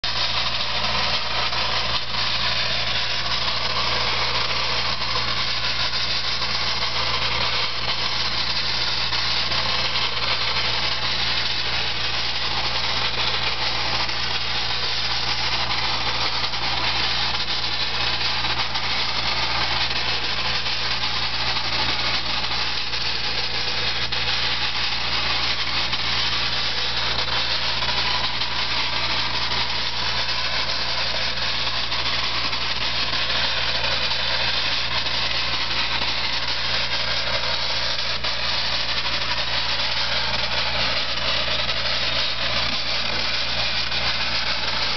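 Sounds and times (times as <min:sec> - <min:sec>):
air compressor engine drone: 0:00.0 - 0:44.9
media blasting hiss: 0:00.0 - 0:44.9.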